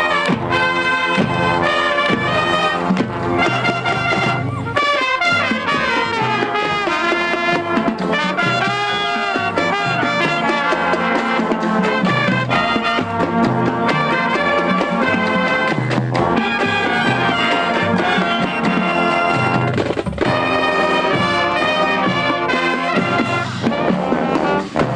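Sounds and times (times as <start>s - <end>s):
brass band playing upbeat tune: 0.0s - 24.9s.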